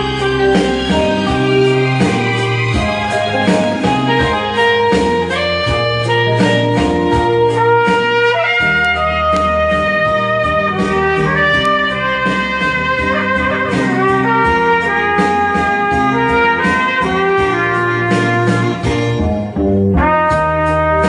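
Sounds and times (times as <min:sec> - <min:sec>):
accompaniment with steady beat: 0:00.0 - 0:21.0
trumpet melody: 0:00.0 - 0:21.0.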